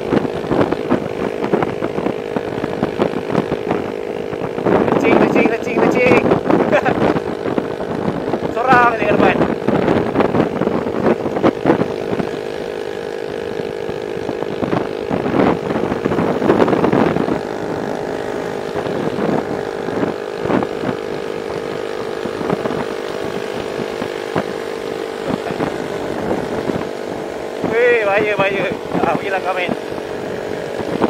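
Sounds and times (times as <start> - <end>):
motorcycle engine cruising: 0.0 - 31.0
wind buffeting microphone: 0.0 - 31.0.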